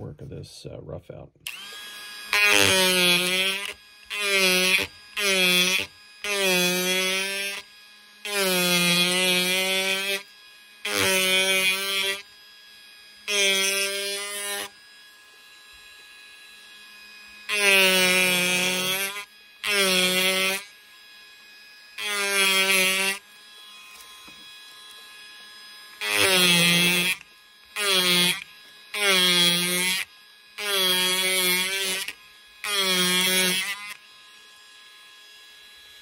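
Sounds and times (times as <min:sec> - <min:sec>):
power chisel buzzing into wood: 0:01.4 - 0:36.0.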